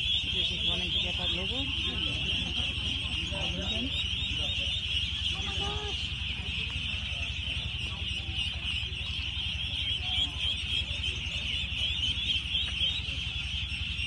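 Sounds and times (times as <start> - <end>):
ducklings peeping: 0.0 - 14.0
low steady rumble: 0.0 - 14.0.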